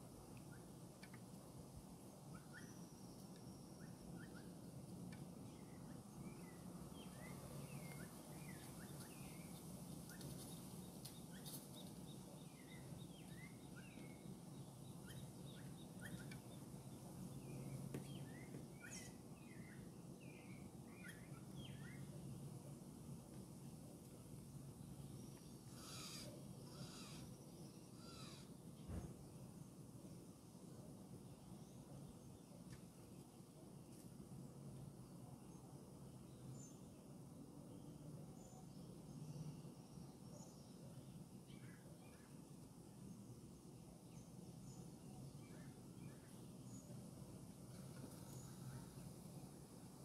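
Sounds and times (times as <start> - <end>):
low background hum: 0.0 - 50.0
small birds chirping: 2.1 - 22.6, 23.2 - 29.9, 34.8 - 50.0.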